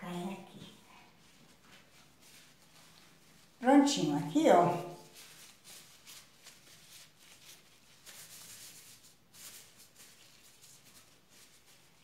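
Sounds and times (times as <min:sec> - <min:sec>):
plastic gloves rustling: 0:00.0 - 0:12.0.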